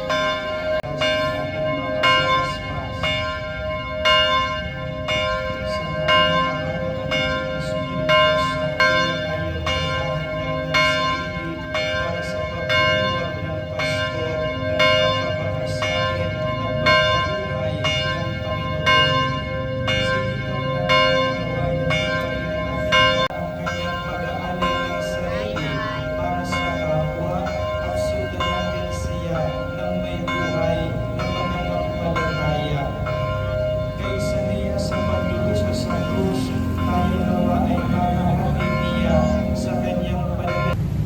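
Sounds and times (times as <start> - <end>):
church bells ringing: 0.0 - 41.0.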